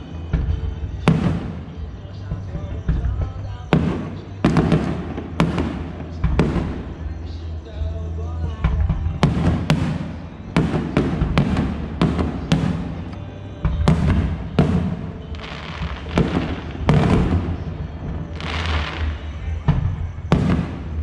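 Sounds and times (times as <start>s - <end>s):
firework bangs: 0.0s - 7.6s, 8.7s - 21.0s.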